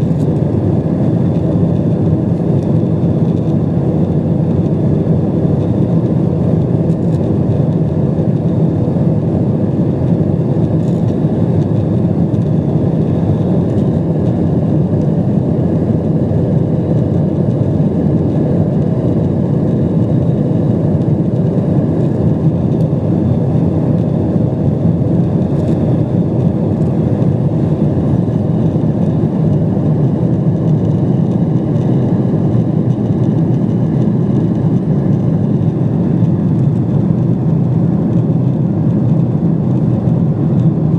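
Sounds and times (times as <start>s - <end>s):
airplane cabin engine roar: 0.0s - 40.9s.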